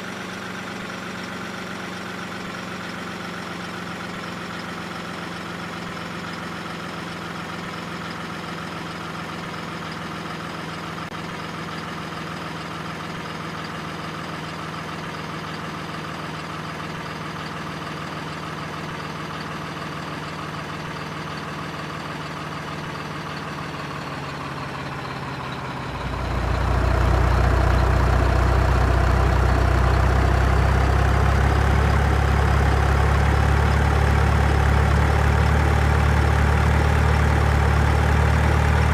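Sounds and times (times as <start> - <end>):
truck engine idling and revving: 0.0 - 38.9.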